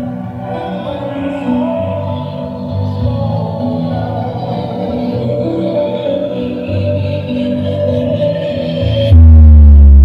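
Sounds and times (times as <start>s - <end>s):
music with heavy bass: 0.0s - 10.0s.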